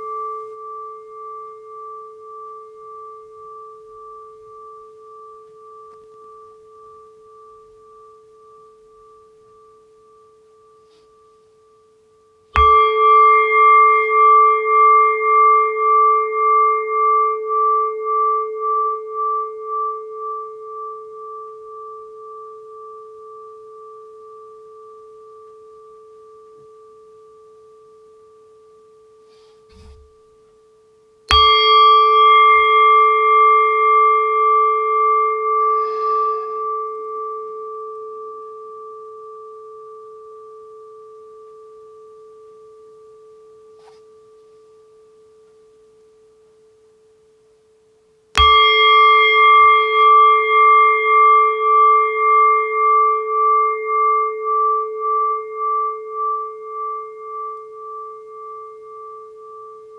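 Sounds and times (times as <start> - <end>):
singing bowl ringing: 0.0 - 59.9.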